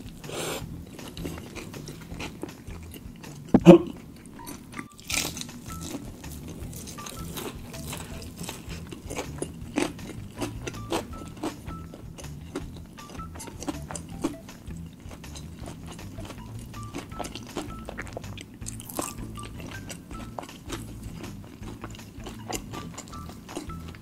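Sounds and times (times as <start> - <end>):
crunchy chewing of fried chicken: 0.0 - 24.0.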